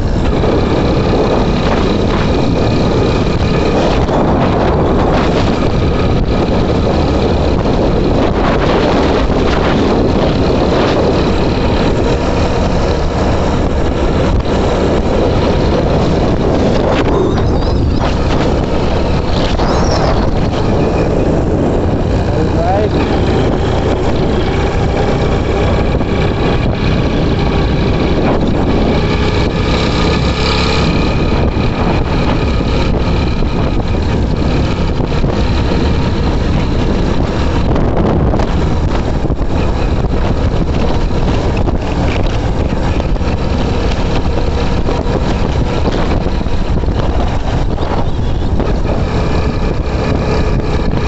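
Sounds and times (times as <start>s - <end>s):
motorcycle engine running: 0.0s - 51.0s
wind noise on microphone: 0.0s - 51.0s.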